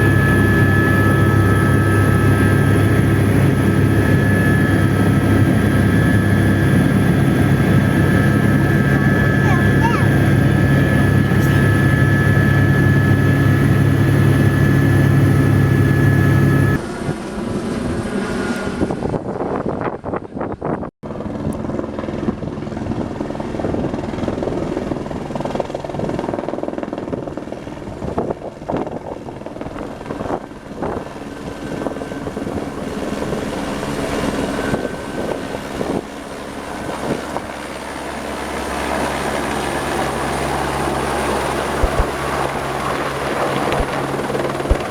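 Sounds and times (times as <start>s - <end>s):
helicopter rotor and turbine: 0.0s - 44.9s.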